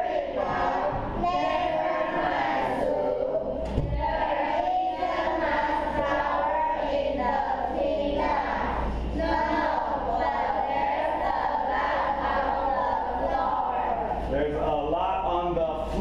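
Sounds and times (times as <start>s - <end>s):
children reading aloud together: 0.0s - 14.3s.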